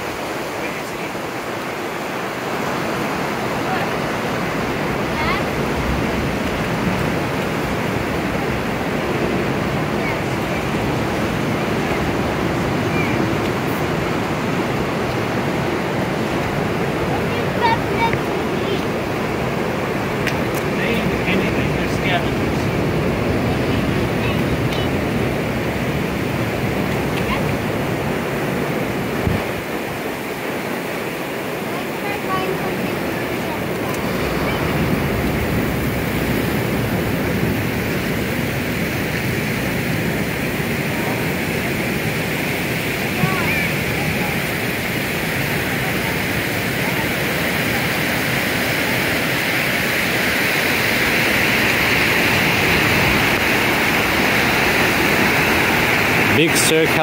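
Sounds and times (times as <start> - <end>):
ocean surf rushing: 0.0 - 57.0
wind on microphone: 1.2 - 57.0.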